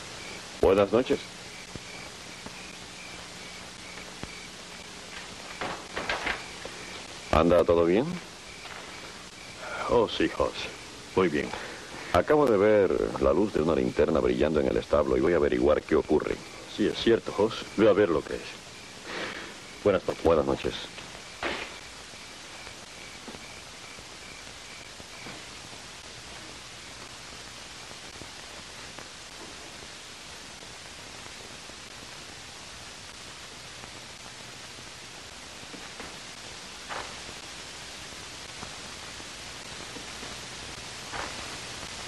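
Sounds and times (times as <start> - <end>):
old recording hiss: 0.0 - 42.0.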